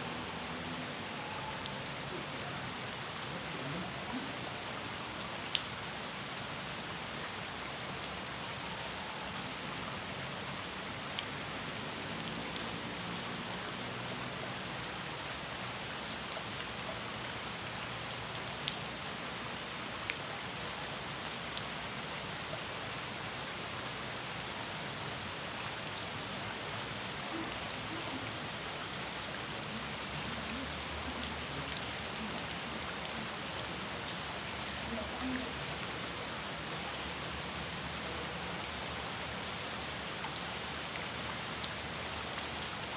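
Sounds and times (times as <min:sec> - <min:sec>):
rain falling on a pond: 0:00.0 - 0:42.9.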